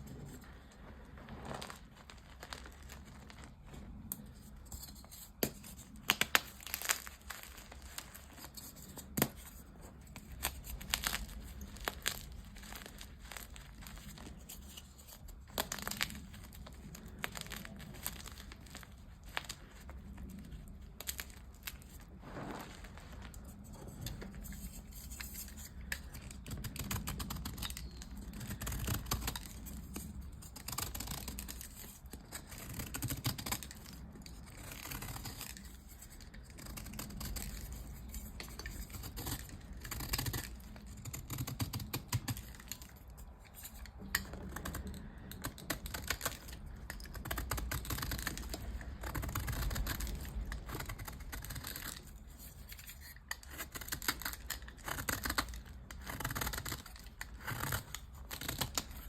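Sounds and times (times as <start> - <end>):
chalk crunching and crumbling: 0.0 - 59.0.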